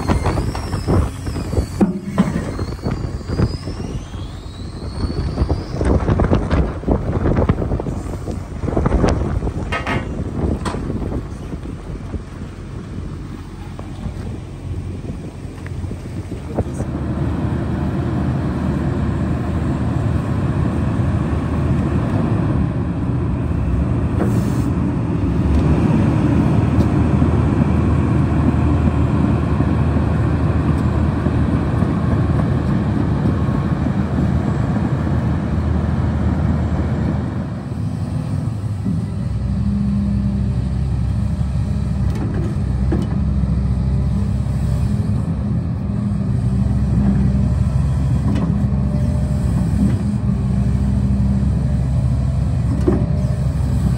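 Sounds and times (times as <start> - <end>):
excavator diesel engine under load: 0.0 - 53.9.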